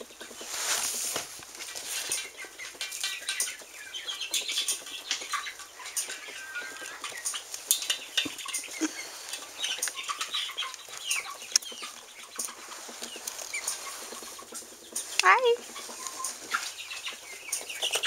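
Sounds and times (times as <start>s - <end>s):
rustle: 0.0s - 3.6s, 6.0s - 18.0s
young chickens clucking and chirping: 0.0s - 18.0s.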